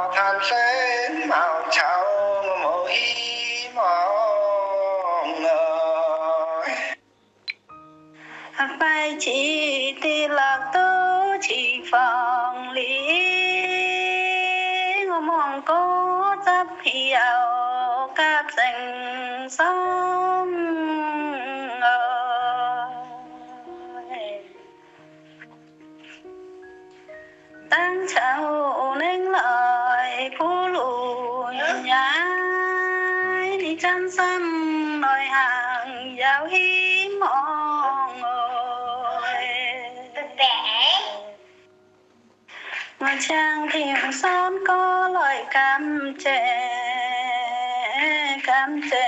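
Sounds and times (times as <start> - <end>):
woman singing slow song: 0.0 - 6.9, 8.4 - 24.6, 27.6 - 41.6, 43.0 - 49.0.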